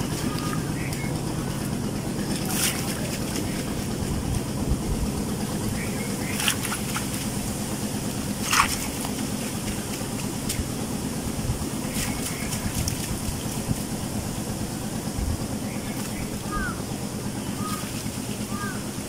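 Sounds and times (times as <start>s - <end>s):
water splashing and dripping: 0.0s - 4.5s, 5.4s - 19.0s
steady low hum: 0.0s - 19.0s.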